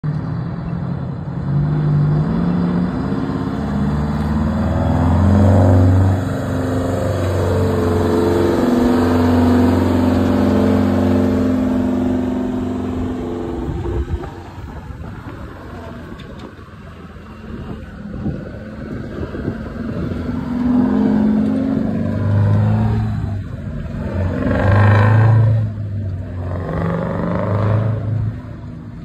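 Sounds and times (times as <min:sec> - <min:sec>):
truck diesel engine passing: 0:00.0 - 0:29.0.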